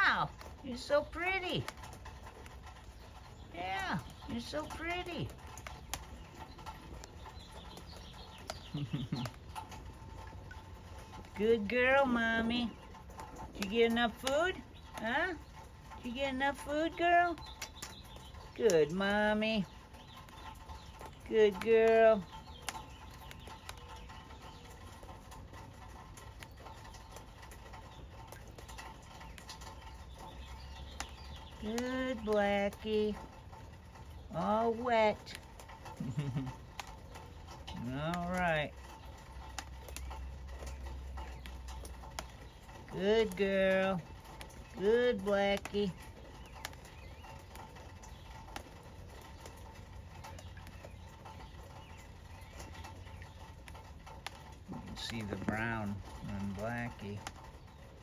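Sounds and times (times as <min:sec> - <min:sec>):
water dripping: 0:00.0 - 0:58.0.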